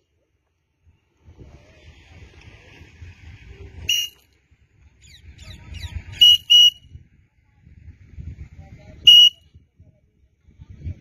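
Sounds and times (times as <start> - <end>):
low rumbling noise: 0.1 - 11.0.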